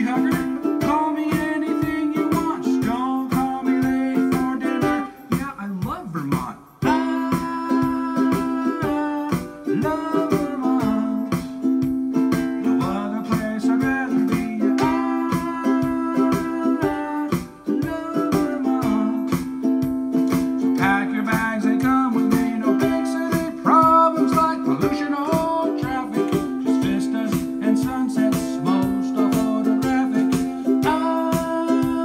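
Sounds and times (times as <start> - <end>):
man singing: 0.0 - 32.0
ukulele strumming: 0.0 - 32.0.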